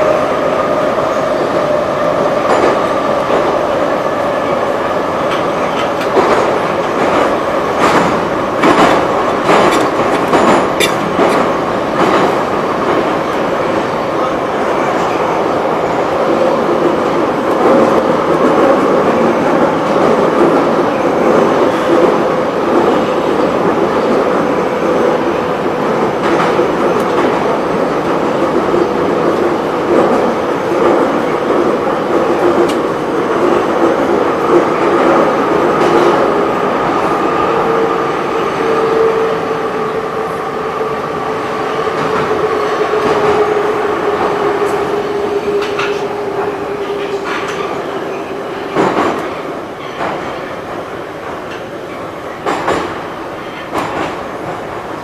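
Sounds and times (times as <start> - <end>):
metro train rumbling in tunnel: 0.0 - 55.0
train whine: 0.0 - 55.0.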